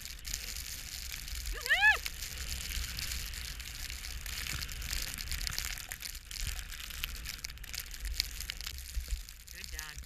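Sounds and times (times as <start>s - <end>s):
crackling hiss of snow: 0.0s - 10.0s.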